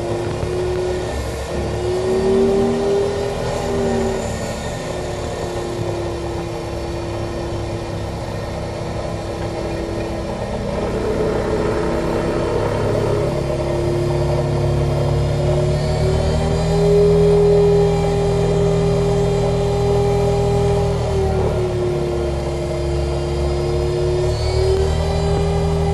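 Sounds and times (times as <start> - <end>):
hydraulic whine: 0.0 - 25.9.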